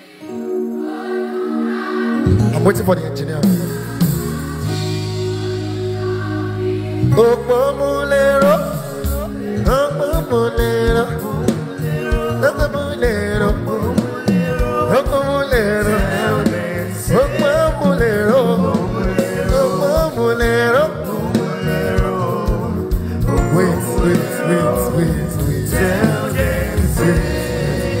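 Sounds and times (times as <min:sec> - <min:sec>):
gospel music with singer and band: 0:00.0 - 0:28.0.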